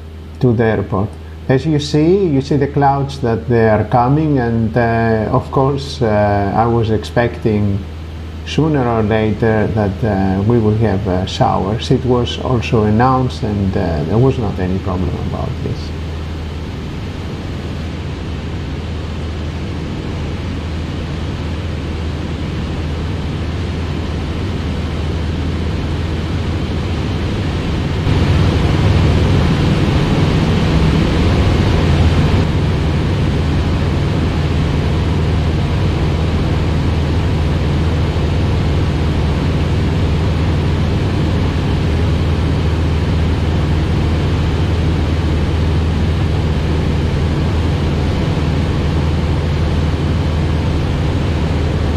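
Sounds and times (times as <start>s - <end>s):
light airplane engine drone: 0.0s - 51.9s.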